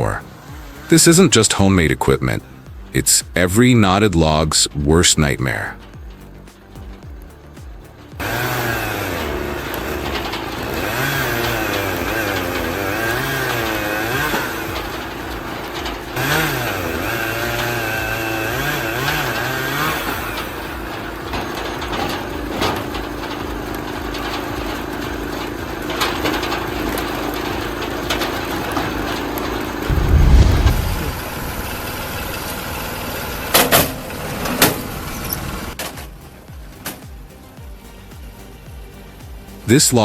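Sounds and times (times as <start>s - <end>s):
log splitter engine running: 0.0s - 40.0s.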